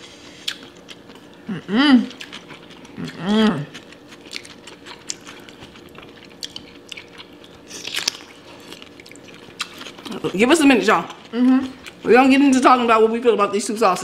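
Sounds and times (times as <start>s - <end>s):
crunchy chewing: 0.2s - 12.1s.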